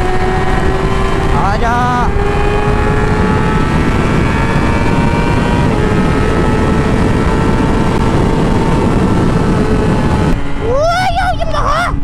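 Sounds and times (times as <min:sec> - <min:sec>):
motorcycle engine at high revs: 0:00.0 - 0:10.8
wind rush: 0:00.0 - 0:12.0.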